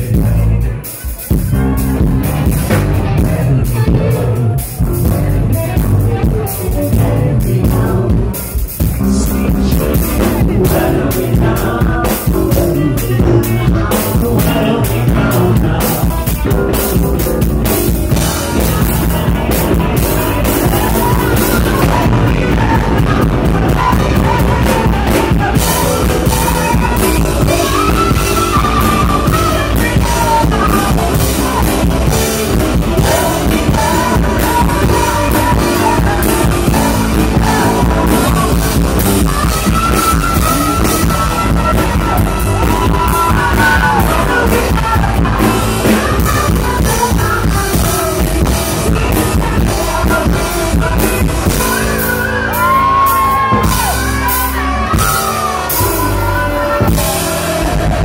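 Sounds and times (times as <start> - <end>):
live rock band playing: 0.0 - 58.0
man singing into microphone: 0.0 - 58.0.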